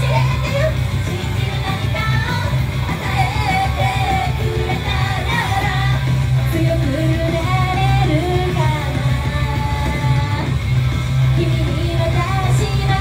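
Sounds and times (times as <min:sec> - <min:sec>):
female voices singing: 0:00.0 - 0:10.5, 0:11.4 - 0:13.0
loud pop-rock music: 0:00.0 - 0:13.0.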